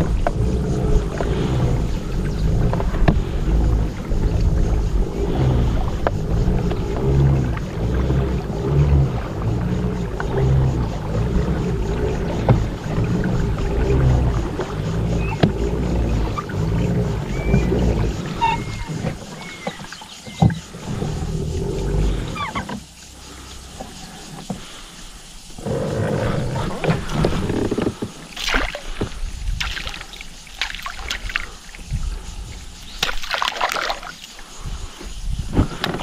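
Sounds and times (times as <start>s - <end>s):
wind rumbling on microphone: 0.0s - 22.6s, 25.5s - 36.0s
water against hull: 0.0s - 36.0s.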